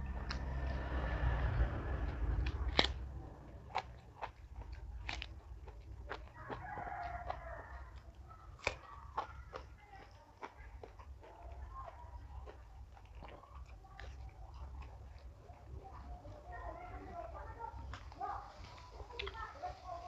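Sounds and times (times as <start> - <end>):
chewing and crunching vegetables: 0.0 - 20.0.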